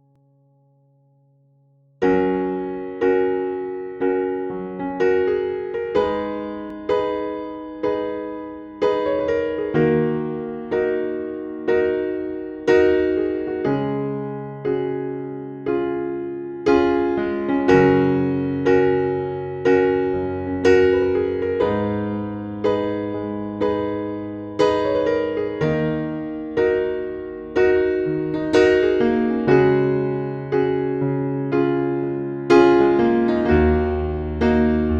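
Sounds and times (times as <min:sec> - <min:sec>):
soft electric piano chords: 0:02.0 - 0:34.9.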